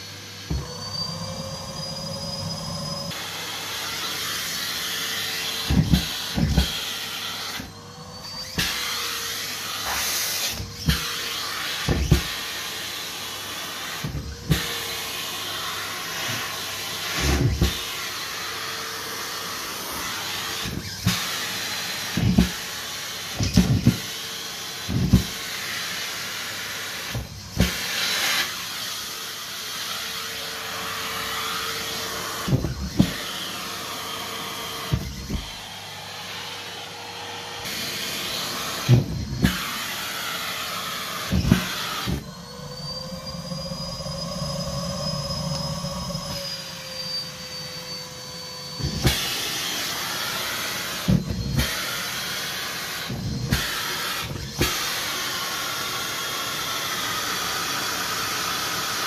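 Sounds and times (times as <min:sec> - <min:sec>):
vacuum cleaner running: 0:00.0 - 0:59.0
vacuum motor high whine: 0:00.0 - 0:59.0.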